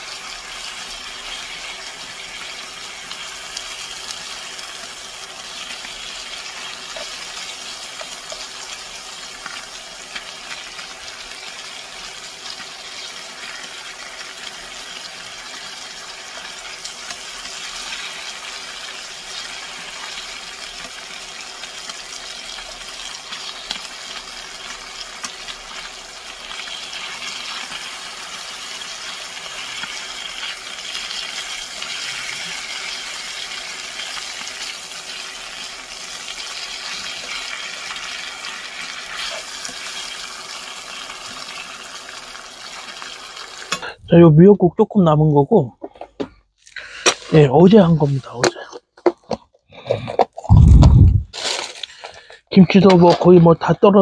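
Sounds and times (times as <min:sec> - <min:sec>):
pork sizzling in a frying pan: 0:00.0 - 0:43.8.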